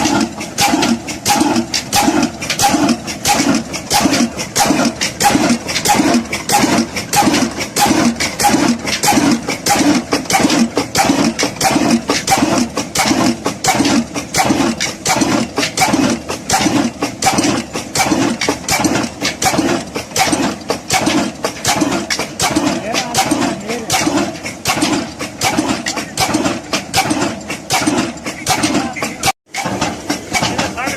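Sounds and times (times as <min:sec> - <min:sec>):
diesel engine knocking steadily: 0:00.0 - 0:30.9.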